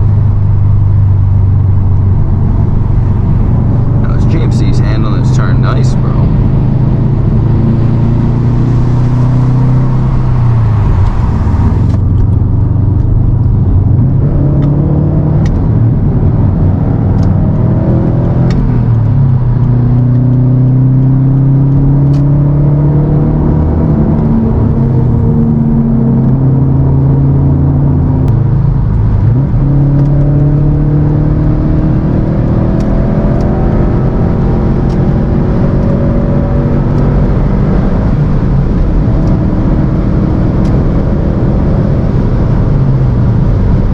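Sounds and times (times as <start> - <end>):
car engine shifting gears: 0.0 - 43.9
road noise: 0.0 - 43.9.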